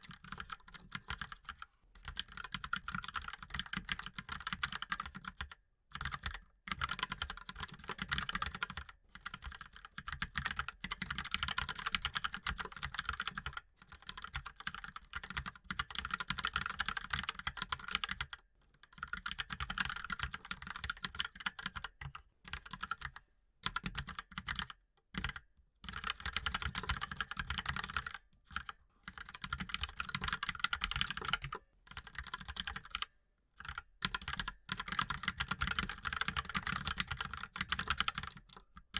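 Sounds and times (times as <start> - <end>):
typing on a mechanical keyboard: 0.0 - 38.9.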